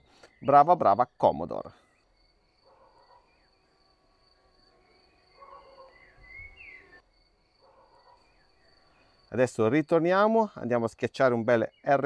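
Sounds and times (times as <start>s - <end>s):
faint chirps: 0.0s - 10.7s
crickets trilling: 0.3s - 12.0s.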